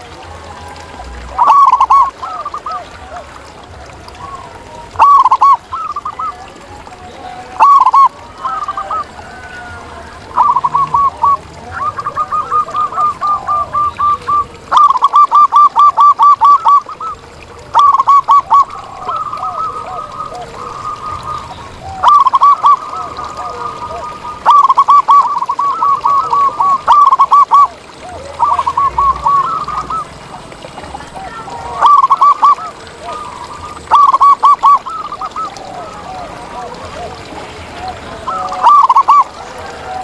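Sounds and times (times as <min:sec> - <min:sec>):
soft dove calls: 0:00.0 - 0:40.0.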